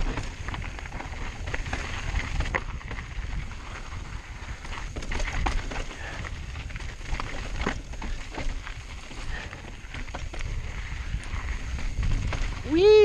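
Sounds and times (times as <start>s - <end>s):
bike tyres crunching over rock: 0.0s - 13.0s
wind rumble on microphone: 0.0s - 13.0s.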